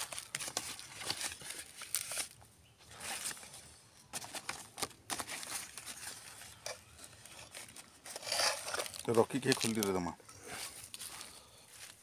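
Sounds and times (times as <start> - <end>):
dry grass and leaves rustling: 0.0 - 12.0.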